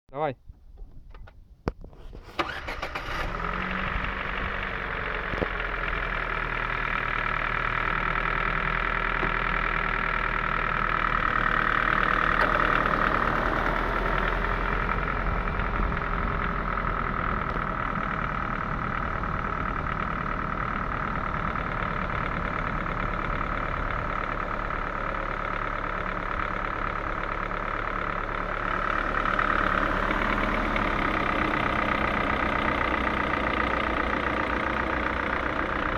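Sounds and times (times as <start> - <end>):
car engine idling: 2.2 - 35.9
engine knocking: 2.4 - 35.9.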